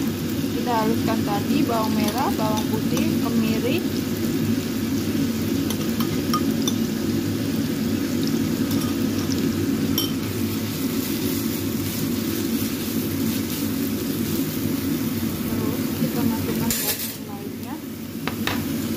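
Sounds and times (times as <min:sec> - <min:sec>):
food sizzling in oil: 0:00.0 - 0:18.9.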